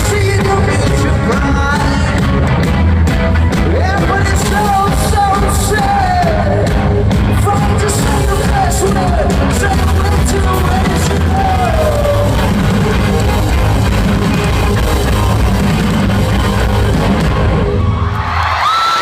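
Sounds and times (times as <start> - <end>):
live rock band playing: 0.0 - 18.6.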